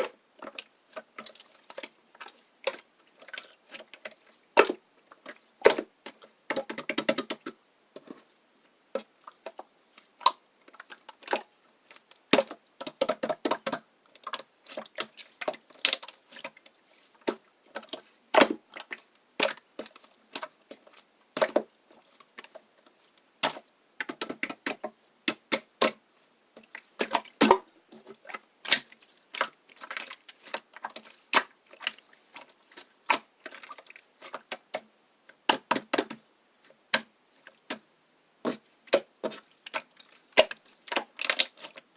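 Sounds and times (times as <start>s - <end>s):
slime squishing with clicks and pops: 0.0s - 7.6s, 8.9s - 16.6s, 17.2s - 21.7s, 23.4s - 26.0s, 26.7s - 36.2s, 36.9s - 37.1s, 37.7s - 41.9s.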